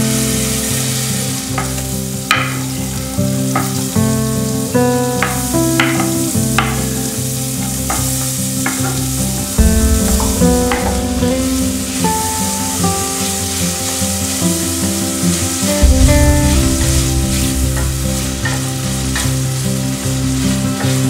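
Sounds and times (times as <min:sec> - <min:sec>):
onion sizzling in butter: 0:00.0 - 0:21.0
plucked background music: 0:03.5 - 0:21.0.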